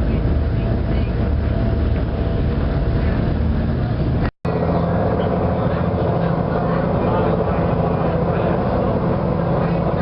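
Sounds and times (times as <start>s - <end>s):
boat engine droning: 0.0s - 10.0s
water noise: 0.0s - 10.0s.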